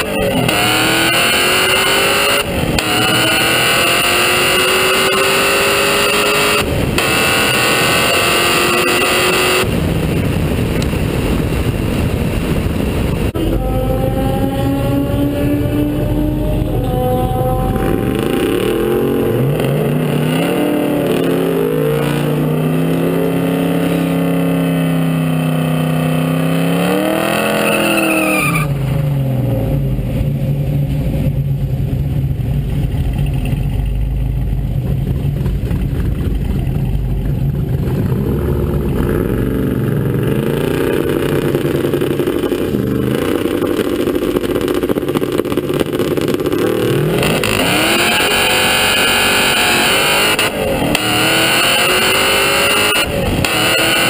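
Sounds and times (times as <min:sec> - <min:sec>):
car engine idling: 0:00.0 - 0:25.4, 0:28.7 - 0:54.0
car engine revving: 0:00.0 - 0:54.0.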